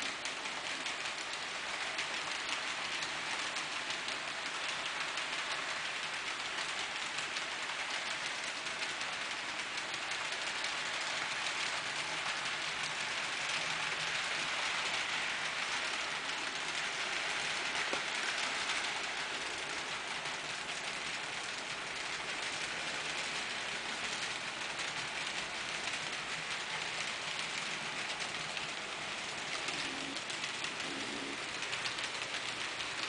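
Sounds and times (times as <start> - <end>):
model train wheels rattling on rails: 0.0 - 33.0.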